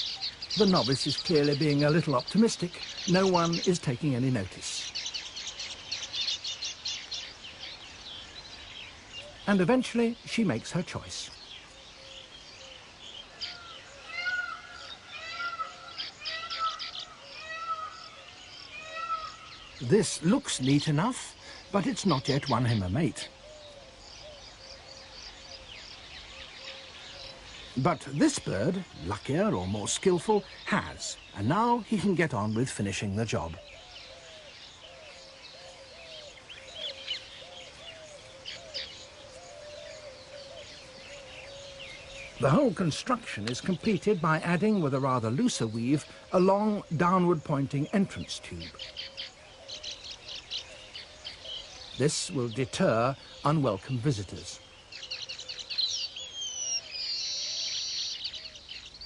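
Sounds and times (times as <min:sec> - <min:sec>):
weaver birds chirping: 0:00.0 - 0:59.0.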